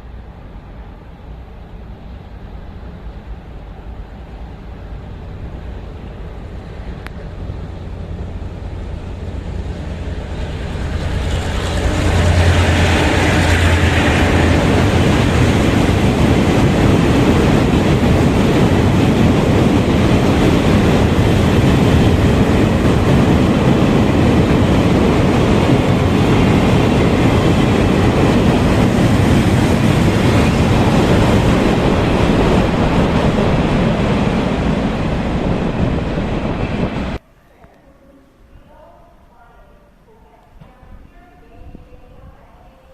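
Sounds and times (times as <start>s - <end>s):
train passing: 0.0s - 37.2s.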